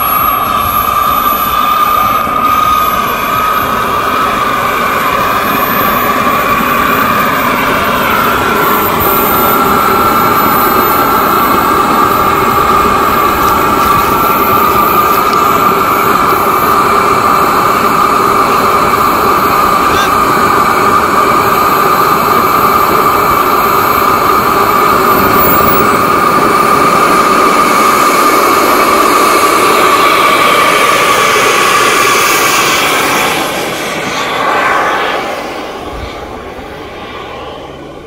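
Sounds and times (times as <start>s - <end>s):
jet engine whine: 0.0s - 38.0s.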